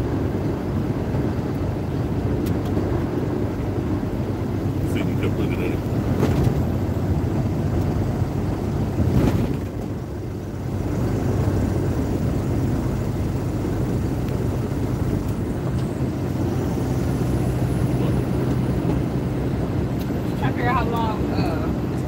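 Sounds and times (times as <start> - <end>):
truck engine and road drone: 0.0 - 22.0.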